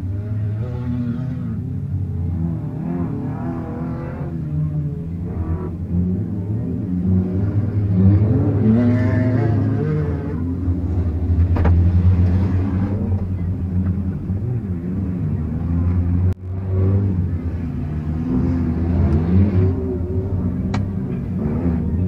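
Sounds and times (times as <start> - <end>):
low engine hum: 0.0 - 22.0
race car engines revving: 0.0 - 22.0.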